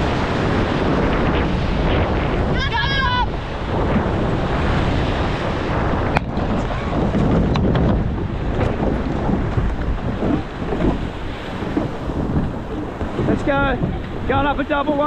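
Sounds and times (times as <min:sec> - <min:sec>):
water rushing: 0:00.0 - 0:15.0
wind buffeting microphone: 0:00.0 - 0:15.0.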